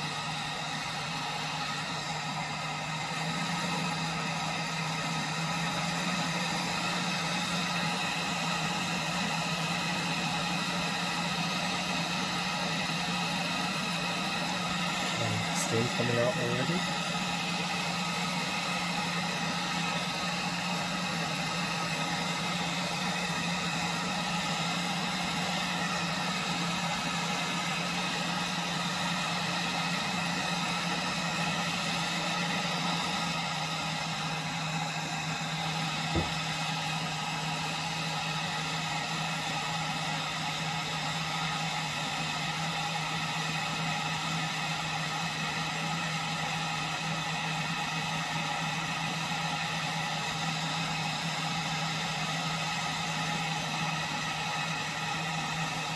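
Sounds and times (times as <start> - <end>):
gas burner hissing: 0.0 - 55.9.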